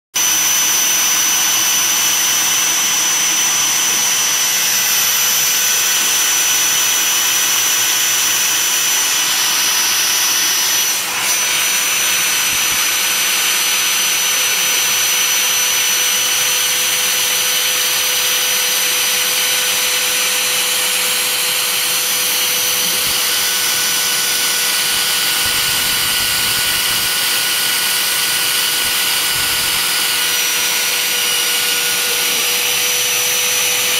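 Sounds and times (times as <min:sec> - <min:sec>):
router spindle high whine: 0:00.1 - 0:33.9.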